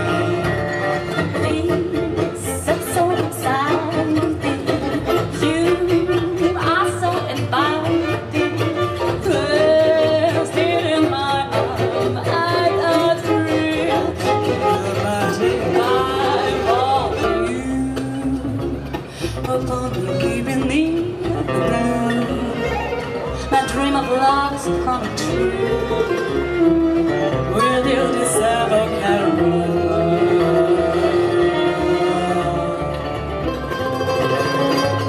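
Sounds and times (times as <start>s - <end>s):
fiddle playing sliding melody: 0.0s - 35.0s
guitar accompaniment: 0.0s - 35.0s.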